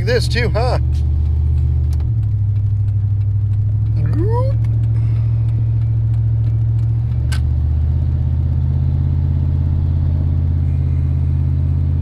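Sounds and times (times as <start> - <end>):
pickup engine drone in cab: 0.0 - 12.0.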